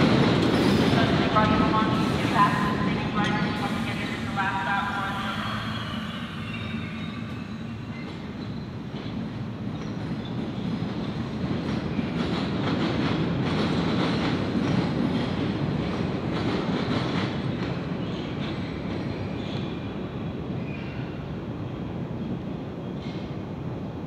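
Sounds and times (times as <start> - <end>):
subway train rumbling past: 0.0 - 24.0.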